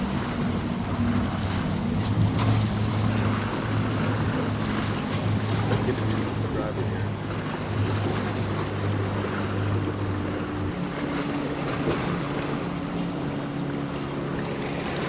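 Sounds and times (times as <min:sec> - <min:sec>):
boat engine higher hum: 0:00.0 - 0:15.0
boat engine low hum: 0:00.0 - 0:15.0
surf: 0:00.0 - 0:15.0.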